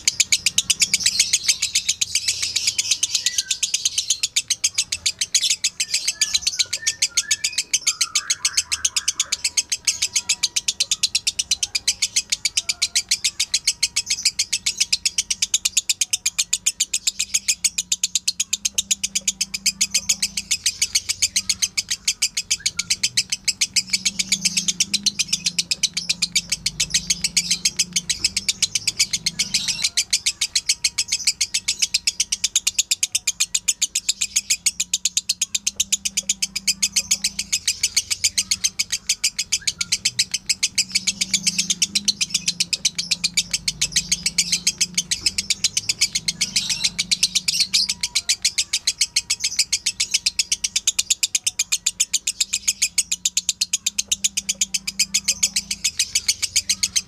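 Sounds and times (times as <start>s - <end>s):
lovebird rapid high chirping: 0.0s - 57.0s.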